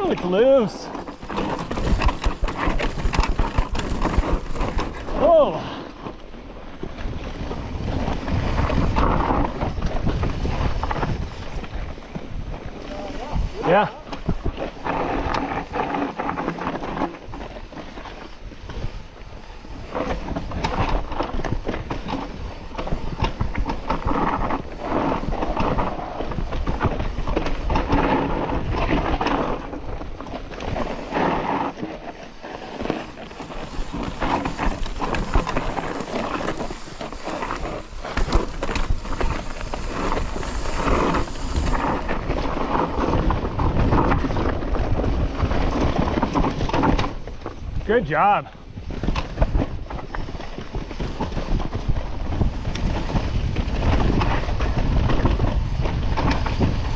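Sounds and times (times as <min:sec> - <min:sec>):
bike clattering: 0:00.0 - 0:47.9
tyres crunching on loose dirt: 0:00.0 - 0:56.9
wind noise on microphone: 0:00.0 - 0:56.9.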